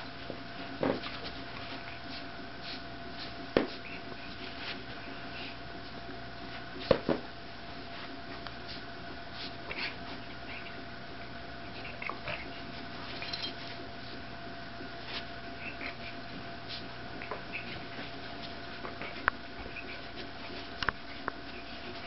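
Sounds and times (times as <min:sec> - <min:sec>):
animals scuffling on carpet: 0:00.0 - 0:10.8, 0:11.7 - 0:22.0
faint hum: 0:00.0 - 0:22.0.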